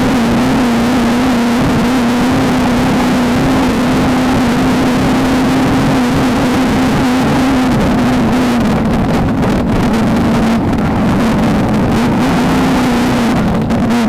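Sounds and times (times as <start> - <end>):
race car engine at high revs: 0.0 - 14.0
wind and terrain noise: 0.0 - 14.0.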